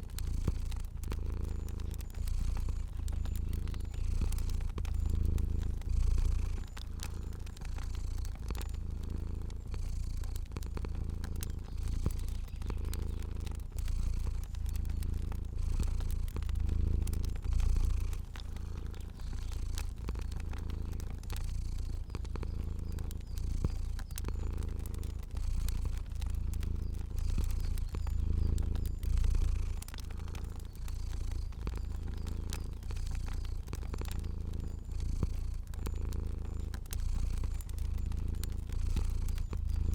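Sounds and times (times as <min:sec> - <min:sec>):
cat purring: 0:00.0 - 0:39.9
fire crackling: 0:00.0 - 0:39.9.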